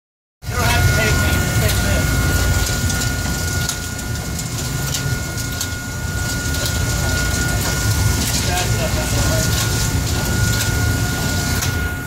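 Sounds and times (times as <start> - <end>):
boat machinery rumble: 0.4 - 12.0
thin steady whine: 0.4 - 12.0.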